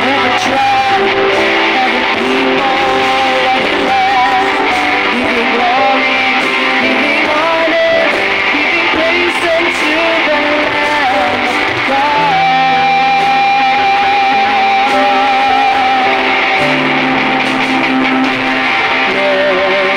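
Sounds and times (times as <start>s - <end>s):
live worship band playing: 0.0s - 19.9s.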